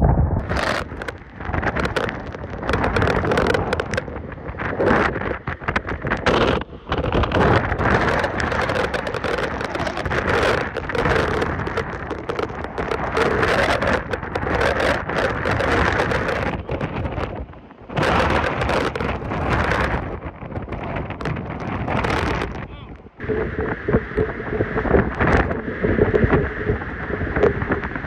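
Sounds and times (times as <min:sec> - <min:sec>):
hurricane winds gusting: 0:00.0 - 0:28.0
heavy rain: 0:00.4 - 0:28.0.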